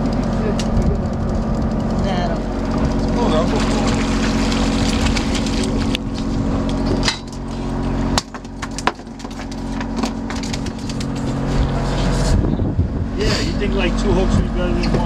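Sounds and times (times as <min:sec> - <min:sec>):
boat engine idling: 0:00.0 - 0:12.4.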